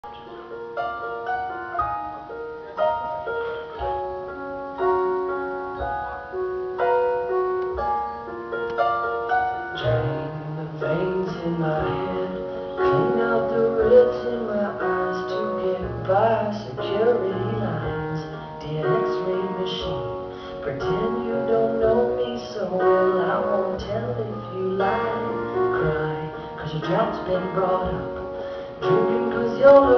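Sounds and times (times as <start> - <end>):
melody of held notes: 0.0 - 29.9.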